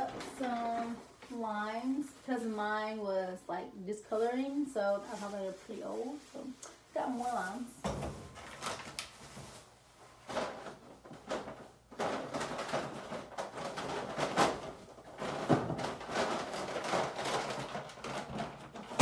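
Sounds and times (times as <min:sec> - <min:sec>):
paper and plastic bags rustling: 0:00.0 - 0:19.0.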